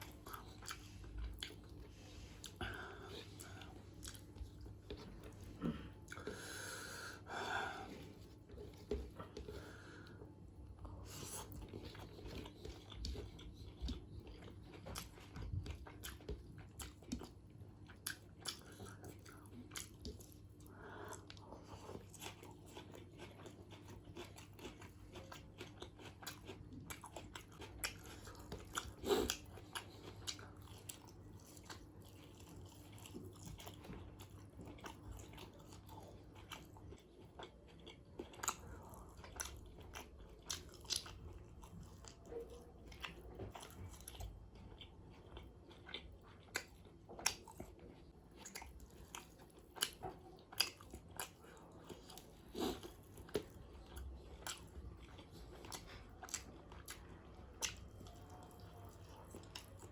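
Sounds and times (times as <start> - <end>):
chewing and biting food: 0.0 - 6.6, 7.8 - 59.9
low steady hum: 0.0 - 59.9
food crunching: 11.2 - 59.9.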